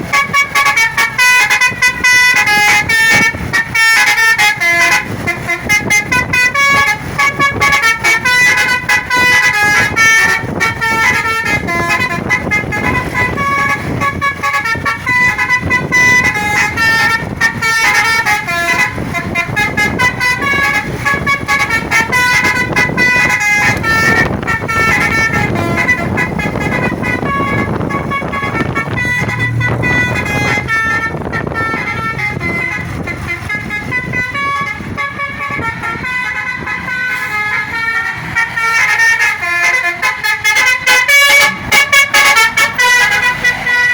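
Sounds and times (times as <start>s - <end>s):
bus horn playing a tune: 0.0s - 43.9s
engine and road noise: 0.0s - 43.9s.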